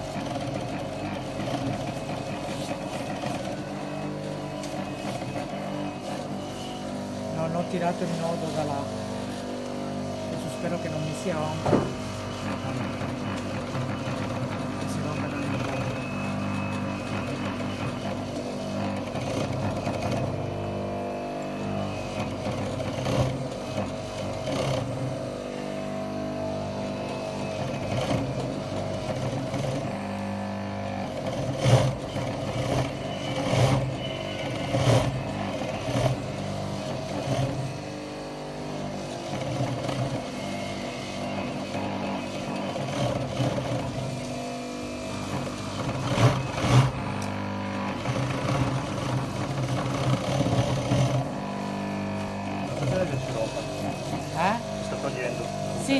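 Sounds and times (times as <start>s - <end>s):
sewing machine motor hum: 0.0s - 55.9s
sewing machine stitching: 0.0s - 55.9s.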